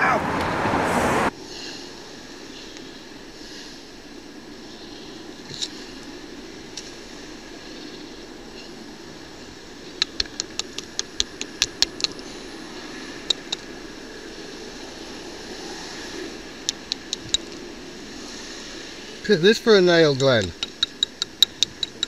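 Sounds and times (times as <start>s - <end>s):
steady background hiss: 1.0s - 22.0s.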